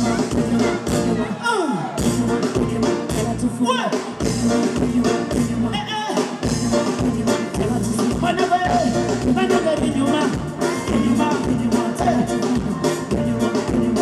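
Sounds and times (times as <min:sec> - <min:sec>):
steady drum beat: 0:00.0 - 0:01.2, 0:02.0 - 0:14.0
bass guitar: 0:00.0 - 0:14.0
keyboard: 0:00.0 - 0:14.0.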